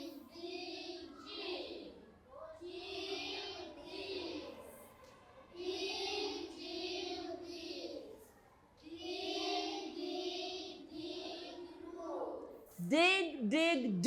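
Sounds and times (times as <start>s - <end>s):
children reading aloud in unison: 0.0s - 12.8s.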